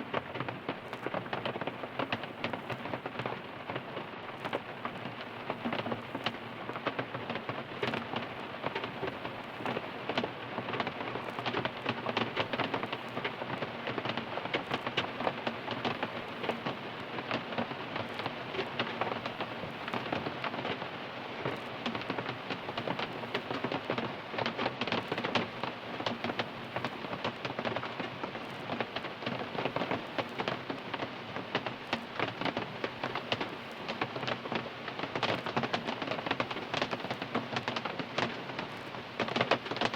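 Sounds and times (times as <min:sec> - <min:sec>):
rain drumming on car roof: 0:00.0 - 0:39.9.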